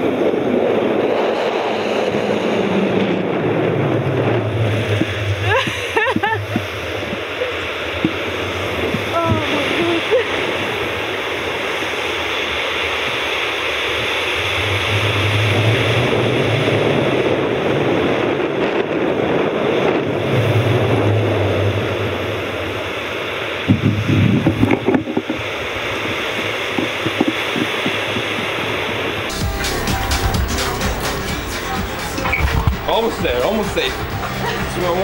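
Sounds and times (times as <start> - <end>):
wind rumble on microphone: 0.0 - 29.6, 32.1 - 35.0
steady rushing outdoor noise: 0.0 - 35.0.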